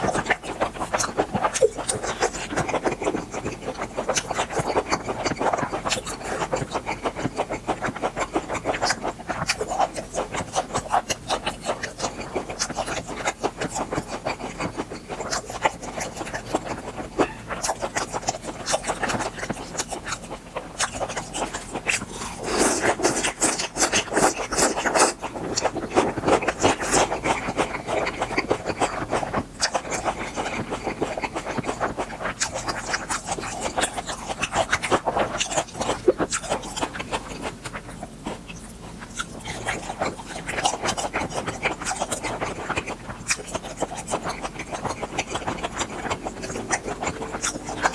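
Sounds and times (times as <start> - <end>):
chewing and mouth sounds: 0.0 - 47.9.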